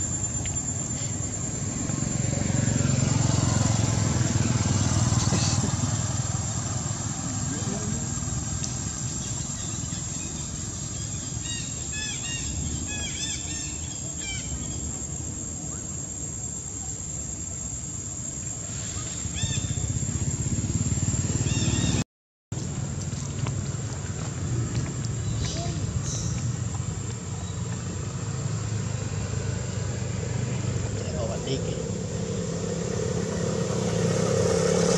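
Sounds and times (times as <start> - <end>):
low outdoor rumble: 0.0 - 22.0, 22.6 - 34.9.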